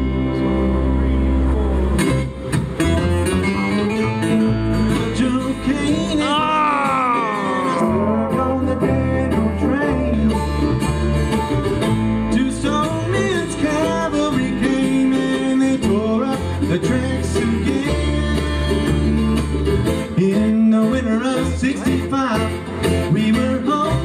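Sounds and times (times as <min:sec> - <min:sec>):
banjo: 0:00.0 - 0:06.5, 0:07.1 - 0:24.0
acoustic guitars: 0:00.0 - 0:24.0
mandolin: 0:00.0 - 0:24.0
upright bass: 0:00.0 - 0:24.0.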